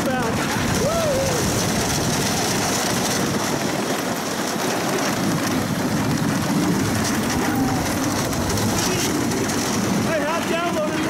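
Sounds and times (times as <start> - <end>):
roller coaster rattling rumble: 0.0 - 11.0.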